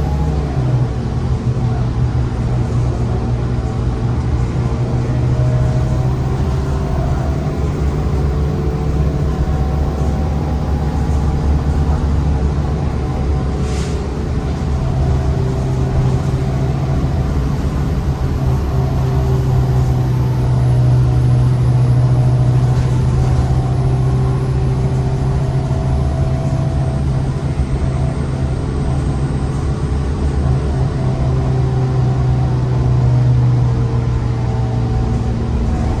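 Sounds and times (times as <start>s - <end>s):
bus air-conditioning drone: 0.0s - 36.0s.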